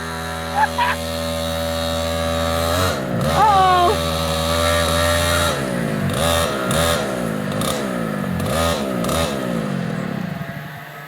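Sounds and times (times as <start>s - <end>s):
go-kart engines revving: 0.0s - 11.0s.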